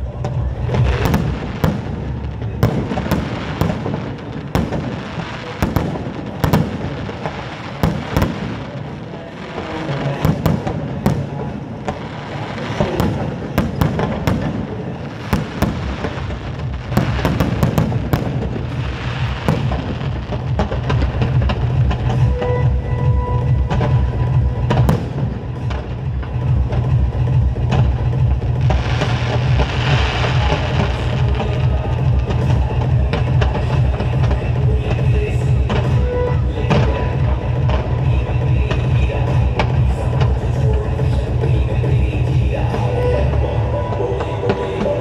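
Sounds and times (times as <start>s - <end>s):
continuous din: 0.0s - 45.0s.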